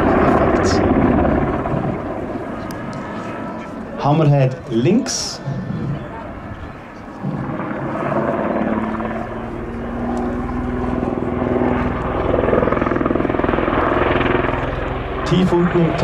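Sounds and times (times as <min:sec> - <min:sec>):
helicopter rotor beat: 0:00.0 - 0:16.0
turbine whine: 0:00.0 - 0:16.0.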